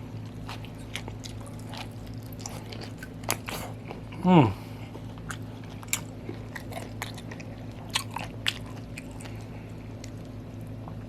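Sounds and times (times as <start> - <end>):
person chewing crunchy food: 0.0 - 11.0
steady low hum: 0.0 - 11.0.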